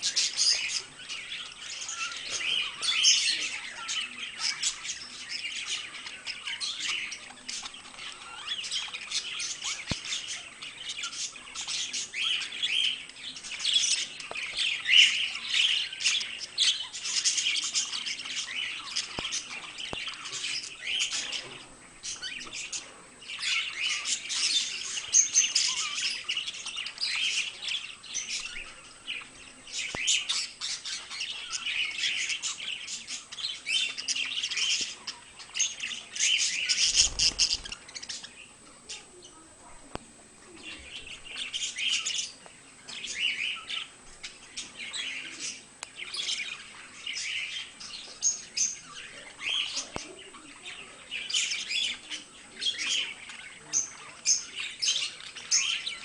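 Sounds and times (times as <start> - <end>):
budgerigars chirping and squawking: 0.0 - 39.5, 40.5 - 56.0.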